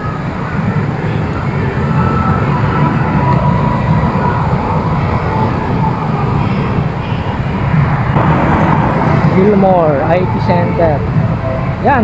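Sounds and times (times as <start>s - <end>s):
city traffic engines and tyres: 0.0s - 12.0s
wind rumbling on microphone: 0.0s - 12.0s.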